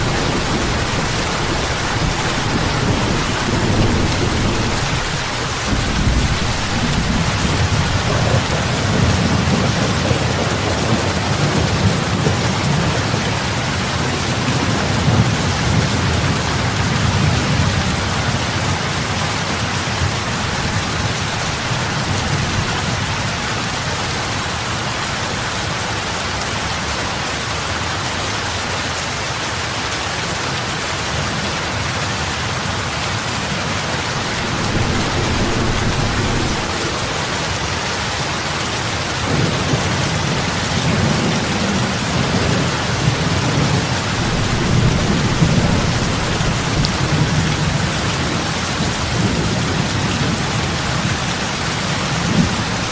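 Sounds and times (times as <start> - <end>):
heavy rain on lake water: 0.0 - 52.9.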